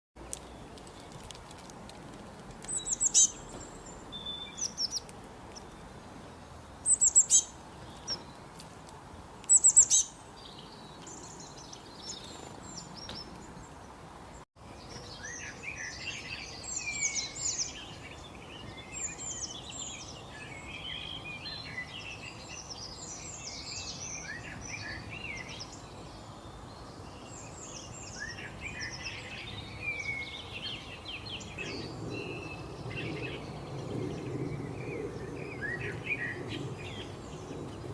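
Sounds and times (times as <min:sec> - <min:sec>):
songbirds chirping: 0:00.2 - 0:37.9.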